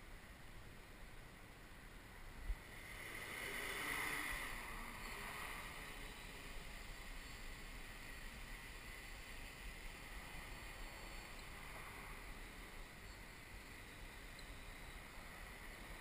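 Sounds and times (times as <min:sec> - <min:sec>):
drone propellers whirring: 0:02.6 - 0:16.0.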